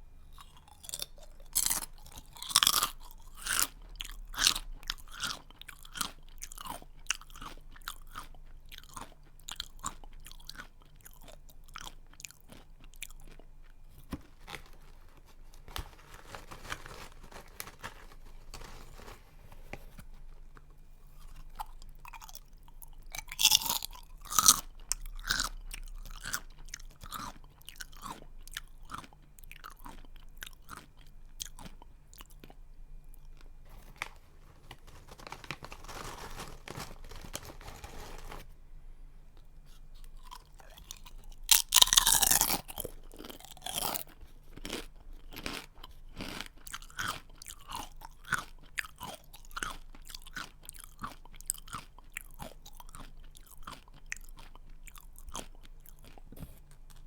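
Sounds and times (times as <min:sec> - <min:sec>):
person chewing crunchy snack: 0:00.3 - 0:19.2, 0:20.5 - 0:38.4, 0:39.4 - 0:57.0.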